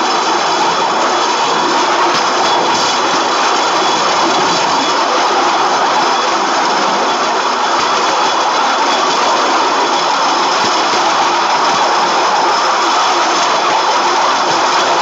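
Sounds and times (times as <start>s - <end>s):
rail kart running: 0.0s - 15.0s.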